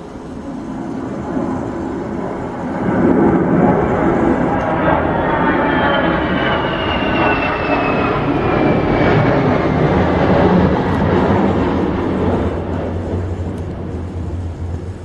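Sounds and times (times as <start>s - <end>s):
jet airliner flying past: 0.0s - 15.0s.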